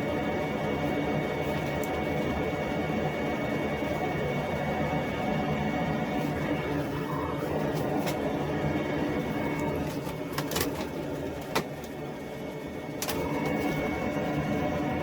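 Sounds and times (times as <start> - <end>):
shop vac motor whining: 0.0 - 15.0.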